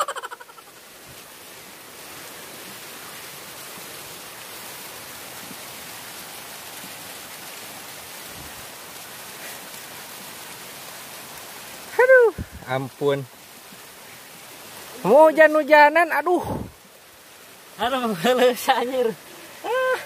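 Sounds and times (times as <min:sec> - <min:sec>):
rain falling on leaves: 0:00.0 - 0:20.0.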